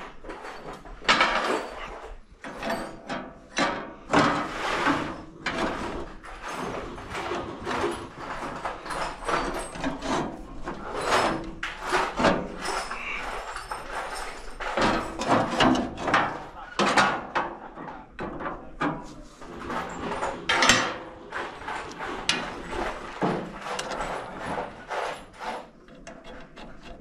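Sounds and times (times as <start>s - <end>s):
knocks and clatter of tools: 0.0s - 27.0s.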